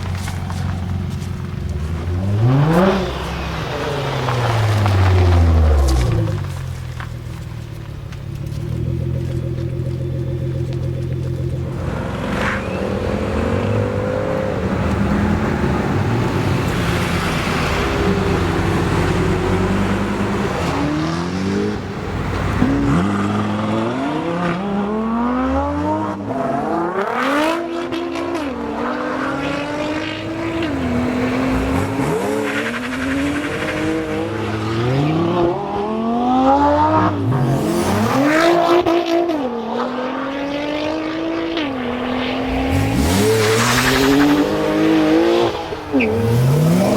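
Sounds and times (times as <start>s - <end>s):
sports car engine revving: 8.3s - 46.9s.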